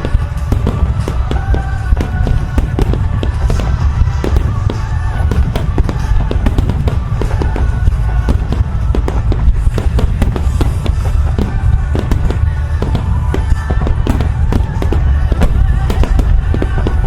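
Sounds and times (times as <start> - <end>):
fireworks bursting and crackling: 0.0 - 17.0
heavy low firework boom: 0.0 - 17.0
loud music: 0.0 - 17.0.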